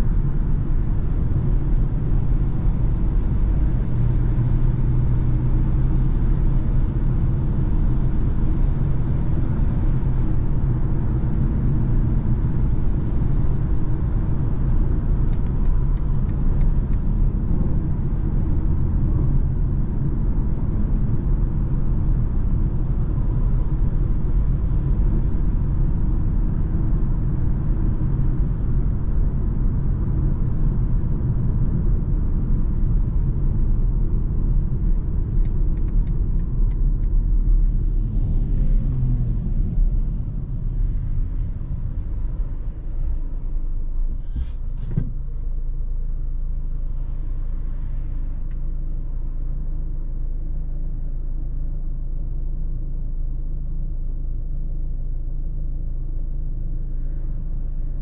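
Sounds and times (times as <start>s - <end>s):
road and engine rumble in car: 0.0s - 58.0s.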